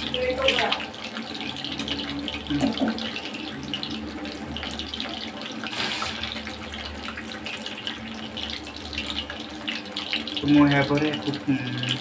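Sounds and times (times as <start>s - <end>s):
chicken deep-frying in sizzling oil: 0.0s - 12.0s.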